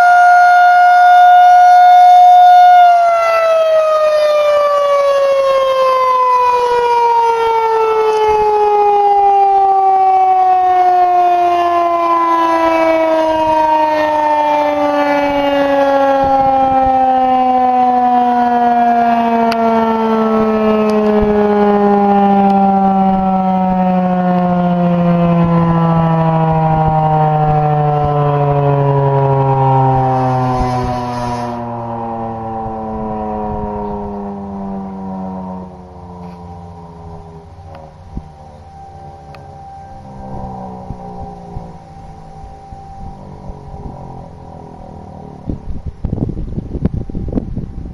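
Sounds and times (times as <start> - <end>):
tornado siren winding down: 0.0 - 47.9.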